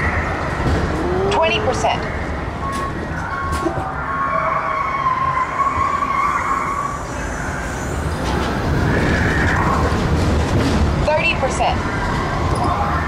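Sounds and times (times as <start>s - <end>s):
ride car rumbling along track: 0.0s - 13.0s.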